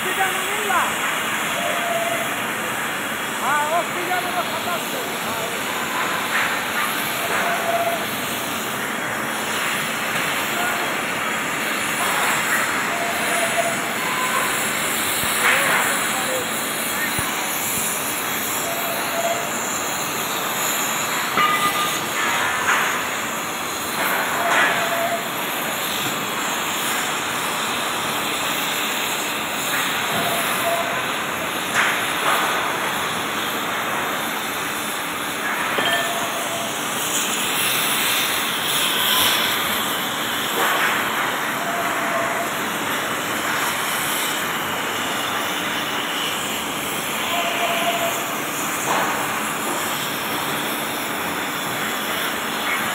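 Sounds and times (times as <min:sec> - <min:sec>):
cutting torch hissing: 0:00.0 - 0:52.9.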